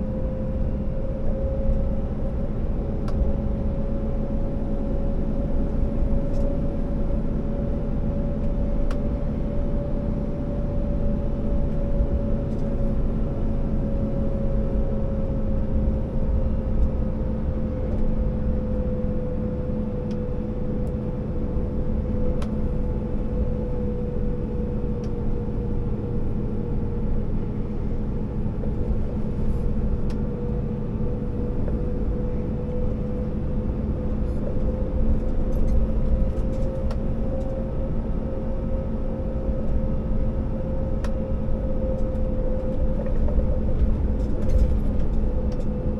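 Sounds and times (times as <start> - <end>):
truck diesel engine rumble: 0.0 - 45.9.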